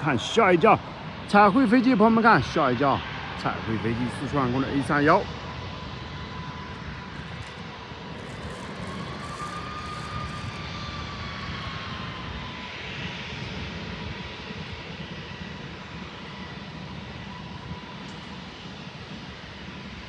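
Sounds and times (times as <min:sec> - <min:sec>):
jet engines whining: 0:00.0 - 0:20.0.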